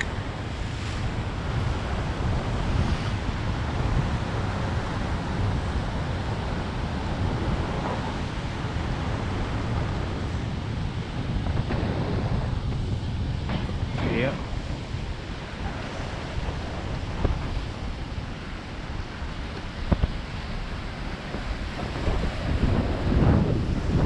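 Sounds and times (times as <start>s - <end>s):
ocean surf washing: 0.0s - 24.0s
wind buffeting microphone: 0.0s - 24.0s.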